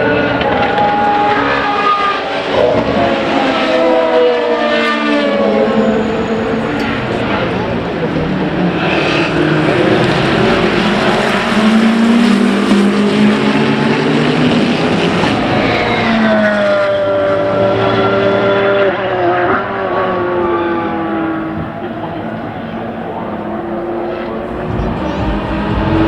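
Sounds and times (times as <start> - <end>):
racing car engines at speed: 0.0 - 26.0.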